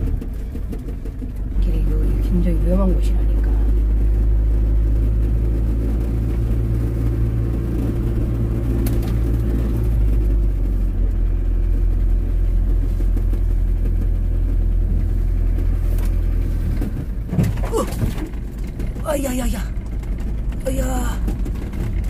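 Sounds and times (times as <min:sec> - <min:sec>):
truck engine drone: 0:00.0 - 0:22.0.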